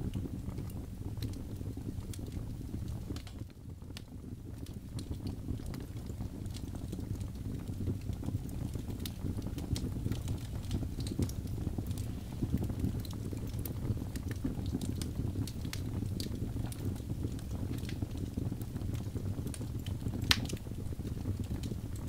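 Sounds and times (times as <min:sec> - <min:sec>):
log fire crackling and popping: 0:00.0 - 0:22.0.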